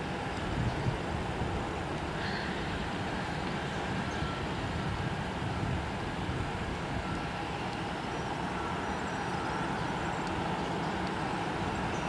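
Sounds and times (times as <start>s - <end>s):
faint high engine whine: 0.0s - 12.0s
jet engines taxiing: 0.0s - 12.0s.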